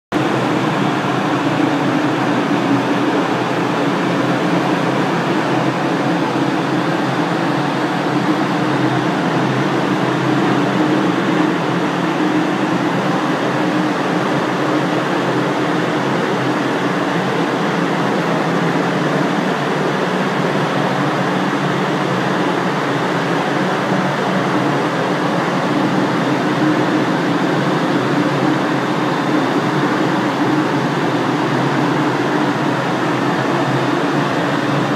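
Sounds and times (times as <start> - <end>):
ventilation fans running: 0.1 - 34.9.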